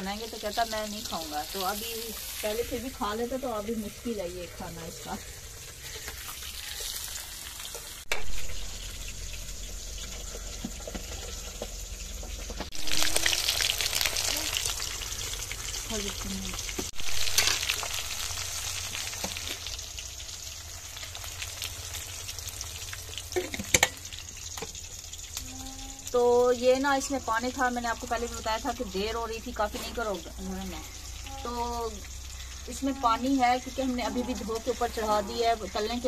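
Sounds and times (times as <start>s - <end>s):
fish sizzling in hot fat: 0.0s - 36.0s.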